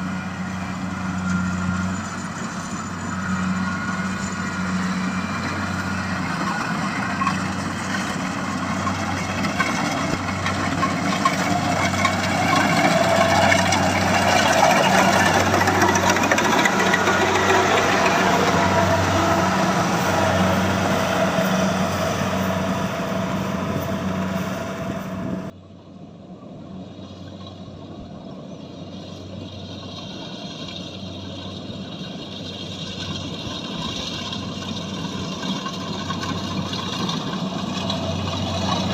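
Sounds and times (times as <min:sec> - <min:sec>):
harvesting machine engine running: 0:00.0 - 0:25.5, 0:27.3 - 0:38.9.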